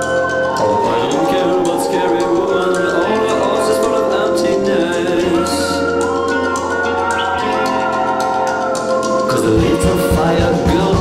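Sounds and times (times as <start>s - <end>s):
melodic music: 0.0s - 11.0s.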